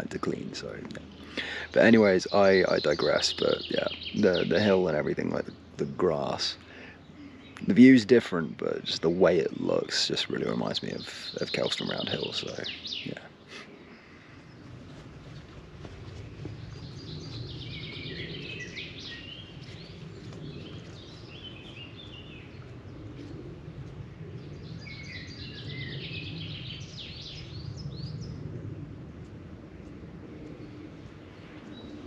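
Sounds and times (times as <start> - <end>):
low outdoor rumble: 0.0 - 32.0
songbird singing: 0.0 - 32.0.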